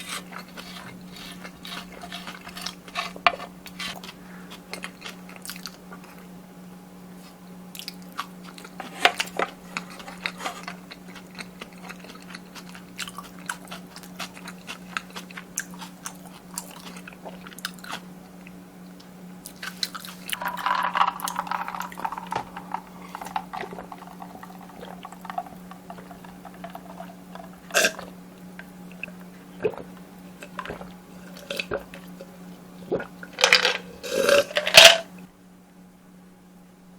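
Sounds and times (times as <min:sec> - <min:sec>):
close chewing of food: 0:00.0 - 0:06.3, 0:07.7 - 0:18.6, 0:19.4 - 0:33.4.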